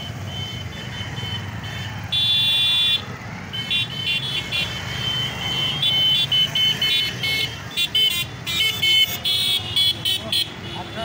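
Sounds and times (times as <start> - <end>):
motorcycle engines running: 0.0 - 11.0
vehicle horns: 0.0 - 11.0.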